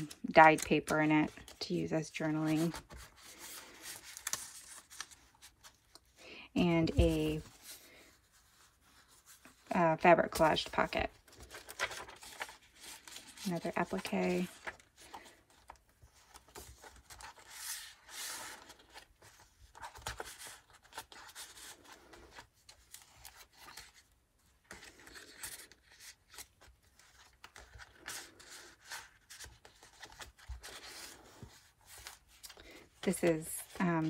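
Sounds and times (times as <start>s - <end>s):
paper pages turning and rustling: 0.0s - 6.2s, 6.8s - 34.0s.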